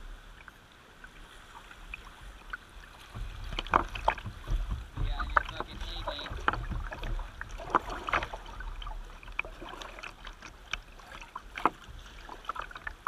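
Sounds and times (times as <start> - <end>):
paddle splashes: 0.0 - 13.0
water noise: 0.0 - 13.0.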